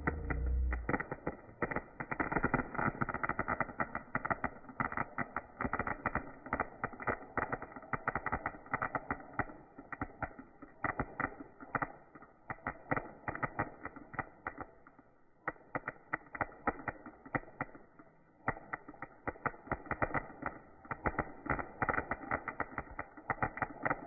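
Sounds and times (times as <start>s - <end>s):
fireworks popping and cracking: 0.0s - 24.0s.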